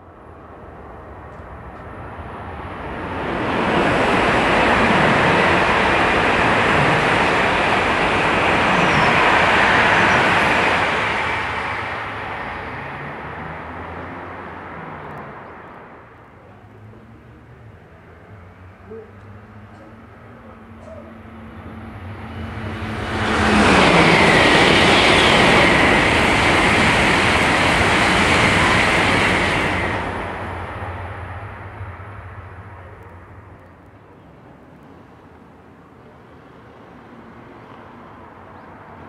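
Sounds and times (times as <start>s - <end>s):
high-speed train passing: 0.0s - 39.0s.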